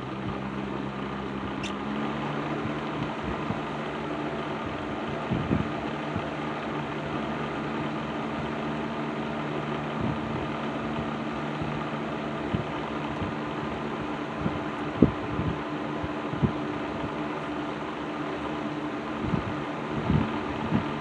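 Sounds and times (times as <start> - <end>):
box fan running: 0.0 - 21.0.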